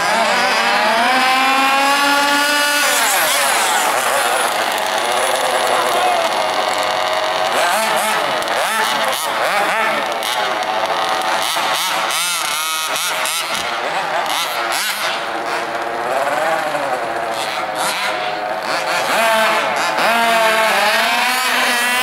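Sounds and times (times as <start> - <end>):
radio-controlled car motors whining: 0.0 - 22.0.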